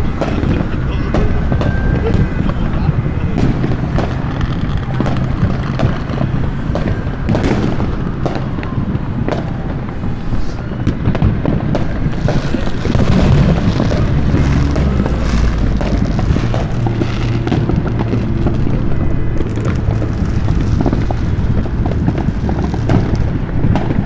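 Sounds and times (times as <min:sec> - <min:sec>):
fireworks bangs and booms: 0:00.0 - 0:24.0
rumble of overlapping explosions: 0:00.0 - 0:24.0.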